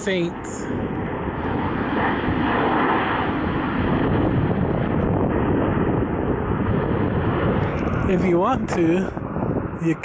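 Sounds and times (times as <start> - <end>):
airliner engine drone: 0.0 - 10.0.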